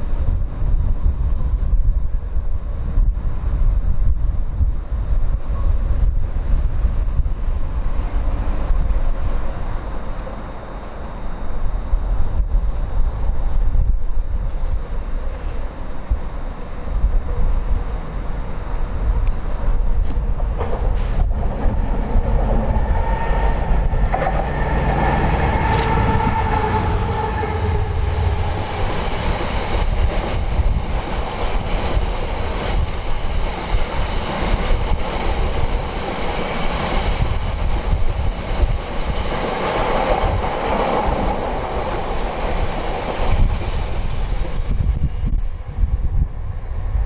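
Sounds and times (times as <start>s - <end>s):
train running noise: 0.0s - 47.0s
train whine: 0.0s - 47.0s
wind buffeting microphone: 0.0s - 47.0s.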